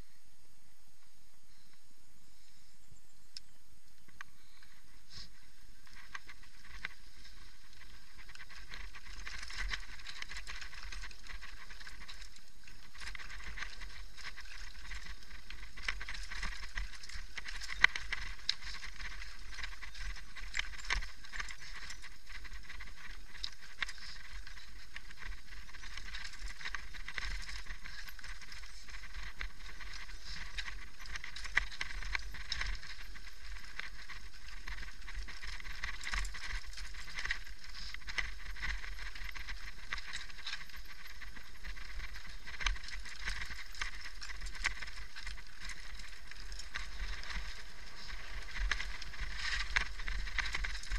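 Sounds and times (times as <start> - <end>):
bike chain and frame rattling: 4.4 - 50.9
tyres rattling over stones: 4.4 - 50.9.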